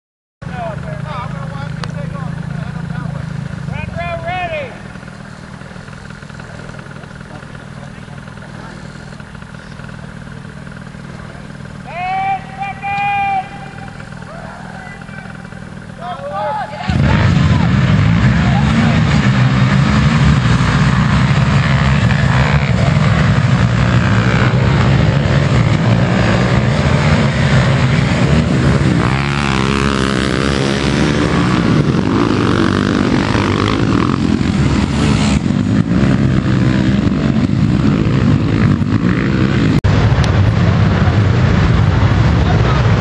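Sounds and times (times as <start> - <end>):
quad engines racing: 0.4 - 43.0.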